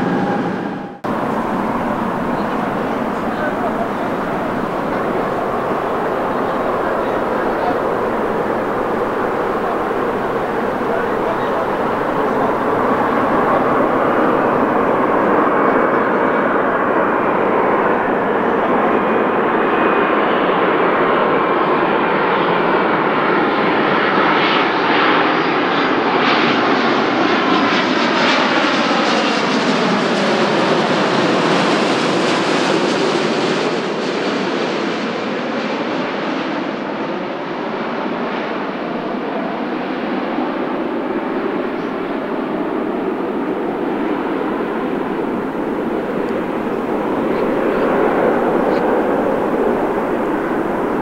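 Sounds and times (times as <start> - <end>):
jet airliner passing overhead: 0.0 - 51.0.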